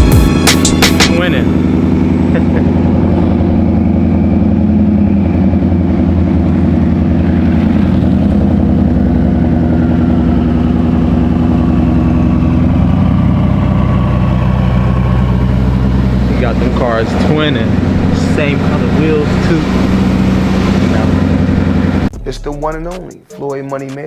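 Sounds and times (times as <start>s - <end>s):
car engine running at low revs: 0.0s - 22.1s.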